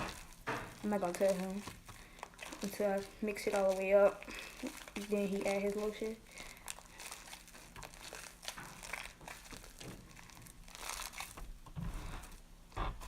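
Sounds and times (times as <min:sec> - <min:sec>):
slime crackling and popping: 0:00.0 - 0:12.4.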